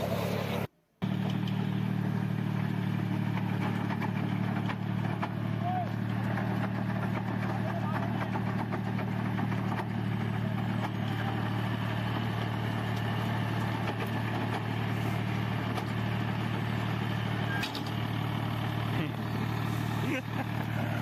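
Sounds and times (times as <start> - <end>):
rotor blades churning soil: 0.0 - 21.0
tractor diesel engine: 0.0 - 21.0.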